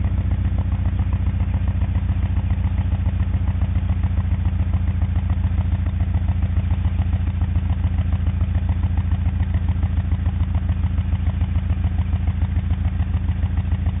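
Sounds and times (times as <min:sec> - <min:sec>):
car engine idling roughly: 0:00.0 - 0:14.0.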